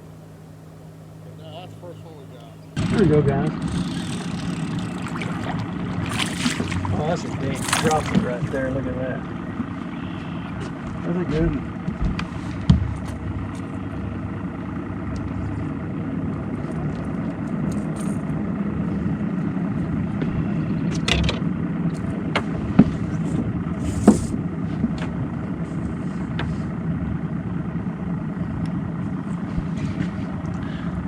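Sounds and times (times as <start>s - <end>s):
boat motor running: 0.0s - 31.0s.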